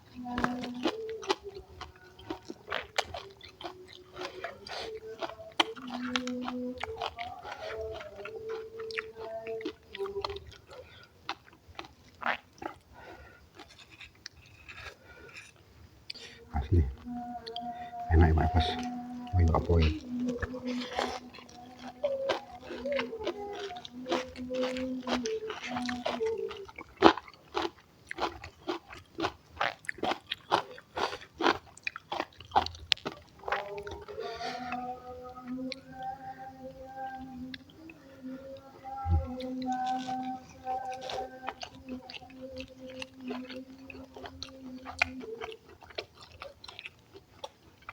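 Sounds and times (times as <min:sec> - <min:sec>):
faint background music: 0:00.0 - 0:47.9
person chewing with lip smacking: 0:00.1 - 0:47.9.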